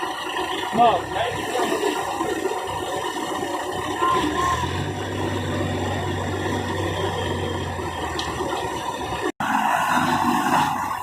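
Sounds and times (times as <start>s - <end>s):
heavy diesel engine humming: 0.0s - 11.0s.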